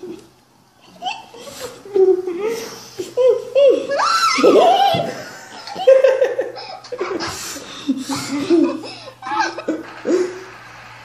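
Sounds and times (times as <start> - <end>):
boys laughing: 0.8 - 11.0.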